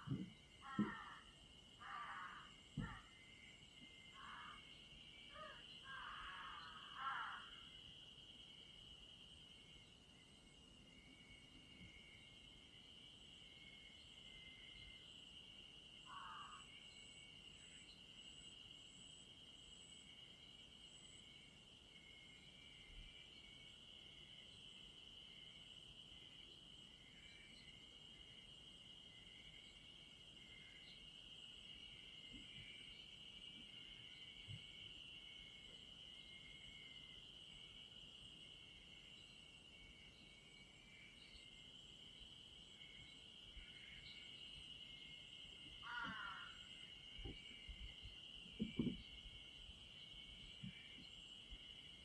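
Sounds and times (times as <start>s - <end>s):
high-pitched insect trill: 0.0s - 52.0s
lower insect call: 0.0s - 52.0s.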